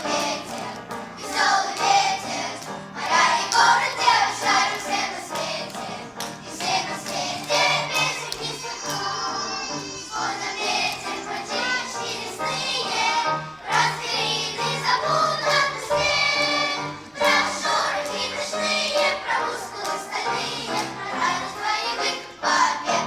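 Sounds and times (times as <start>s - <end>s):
children's choir singing: 0.0s - 23.0s
instrumental accompaniment: 0.0s - 23.0s.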